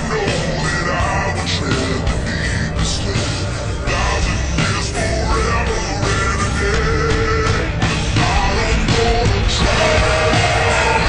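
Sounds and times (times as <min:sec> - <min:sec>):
hard rock band playing: 0:00.0 - 0:11.0.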